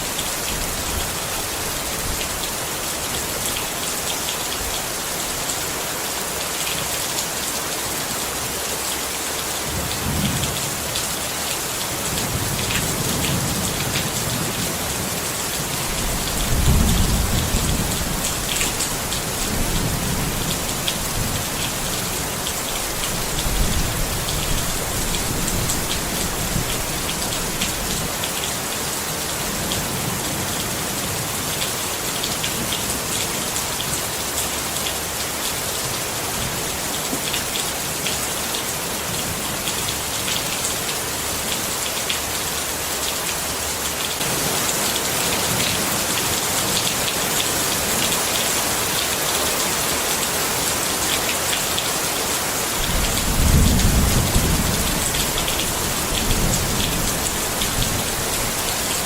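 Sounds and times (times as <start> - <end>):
rain pattering on a tent: 0.0 - 59.0.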